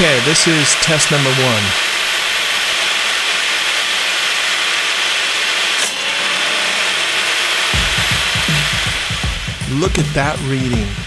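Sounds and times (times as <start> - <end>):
table saw running: 0.0 - 11.0.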